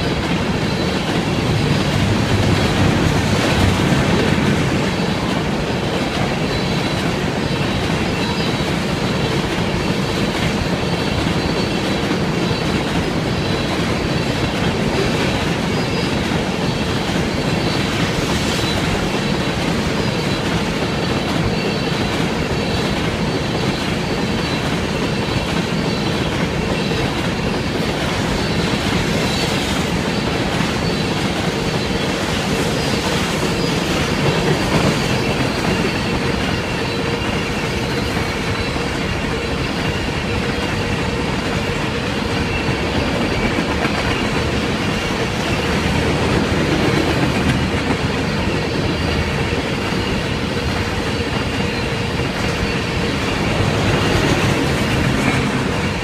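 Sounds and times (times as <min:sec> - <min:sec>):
high squeal of wheels on rails: 0:00.0 - 0:56.0
train wheels clacking over rail joints: 0:00.0 - 0:56.0.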